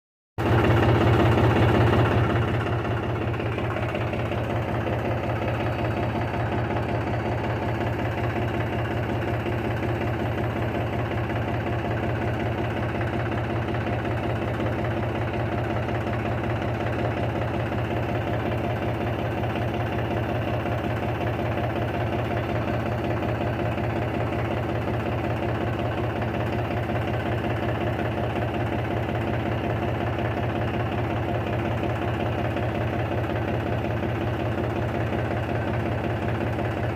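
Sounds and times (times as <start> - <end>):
tractor engine chugging: 0.4 - 36.9.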